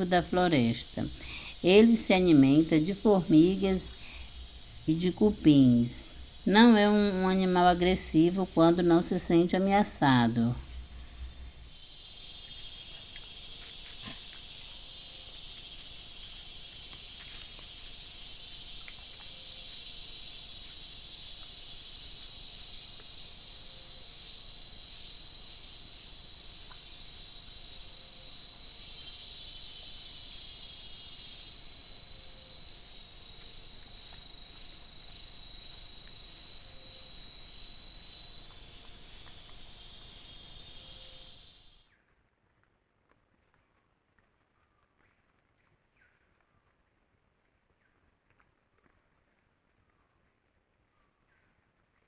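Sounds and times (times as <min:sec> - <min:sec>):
insects chirping chorus: 0:00.0 - 0:41.9.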